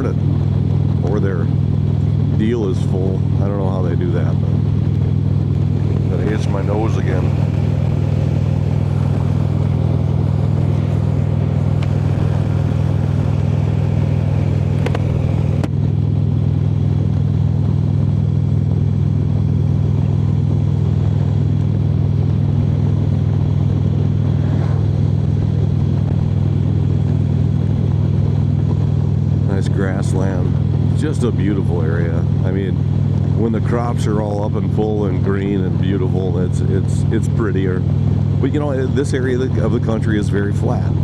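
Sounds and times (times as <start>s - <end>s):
motorcycle engine droning: 0.0s - 41.0s
road and wind noise: 0.0s - 41.0s.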